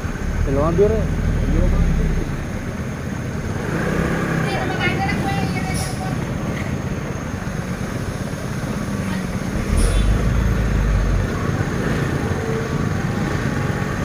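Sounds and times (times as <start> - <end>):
diesel truck engines rumbling: 0.0 - 14.0.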